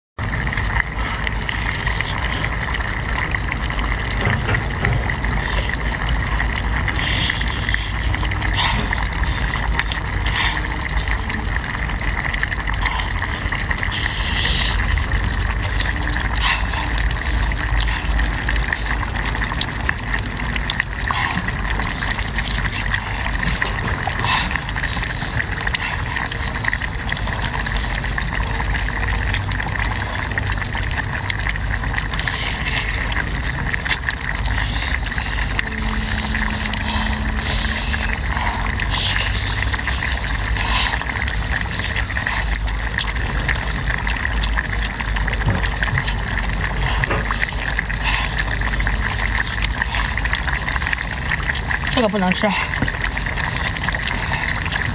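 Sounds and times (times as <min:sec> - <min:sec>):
seafood simmering and bubbling: 0:00.2 - 0:54.9.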